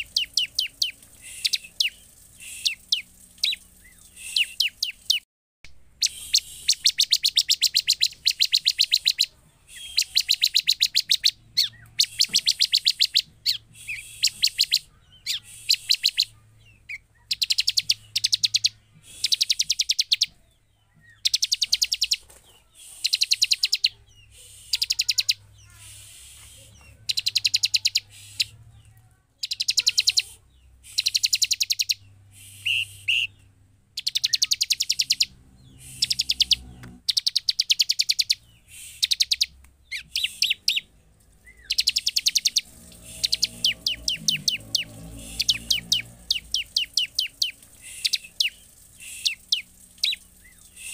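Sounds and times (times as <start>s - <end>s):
bird trilling song: 0.0s - 5.2s, 6.0s - 50.9s.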